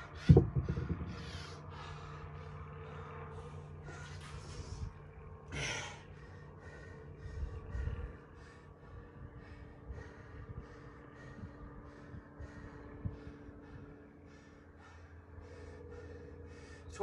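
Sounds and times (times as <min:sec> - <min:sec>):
low rumble: 0:00.0 - 0:16.9
man breathing hard: 0:00.0 - 0:17.0.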